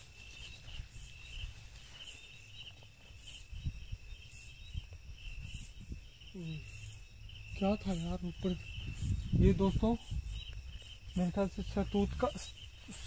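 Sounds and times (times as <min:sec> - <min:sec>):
crickets chirping: 0:00.0 - 0:13.0
high insect buzz: 0:00.0 - 0:13.0.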